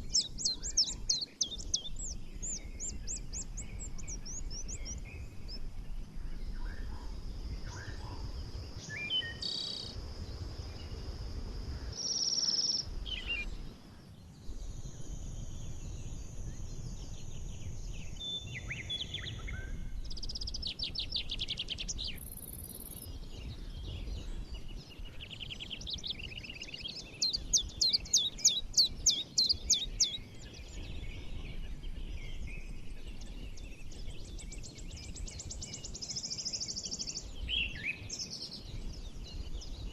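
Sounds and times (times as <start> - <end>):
birds singing and chirping: 0.0 - 11.0, 11.7 - 39.9.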